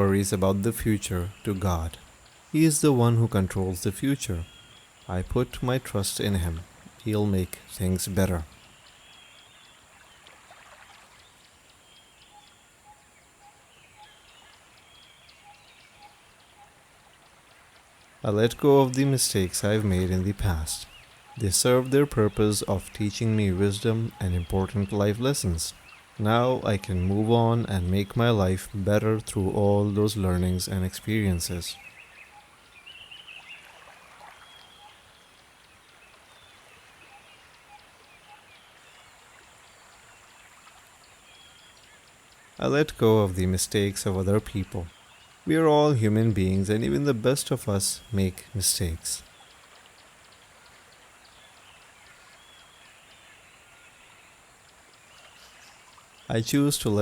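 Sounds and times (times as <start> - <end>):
bird chirps and gliding calls: 0.0 - 57.0
birds calling: 0.0 - 57.0
faint steady hiss: 0.0 - 57.0
flowing water: 0.0 - 57.0.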